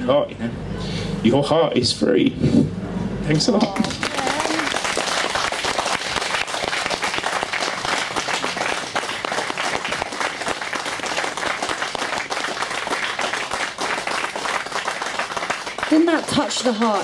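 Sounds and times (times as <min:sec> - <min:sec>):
audience applauding: 0:03.3 - 0:17.0.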